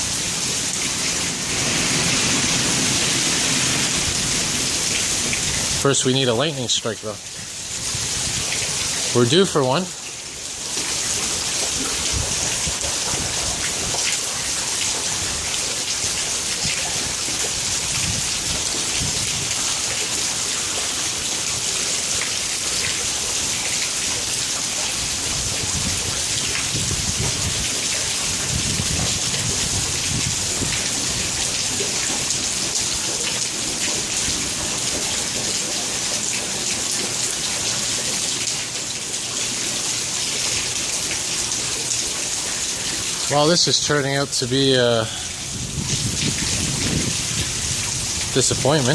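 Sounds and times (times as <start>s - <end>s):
heavy rain on pavement: 0.0s - 48.9s.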